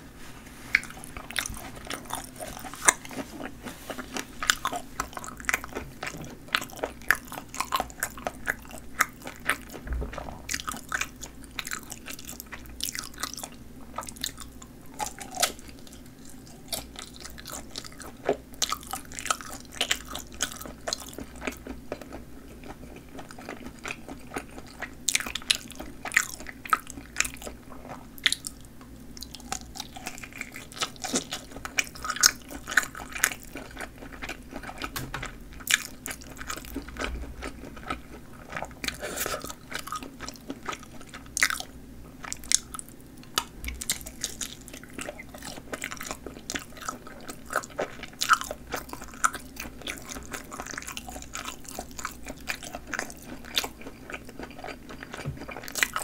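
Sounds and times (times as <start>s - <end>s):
person chewing sausage: 0.6s - 56.0s.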